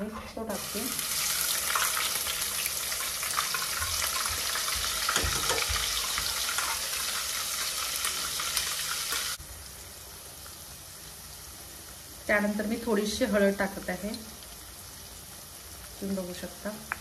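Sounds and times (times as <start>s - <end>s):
paste sizzling in hot oil: 0.4s - 17.0s.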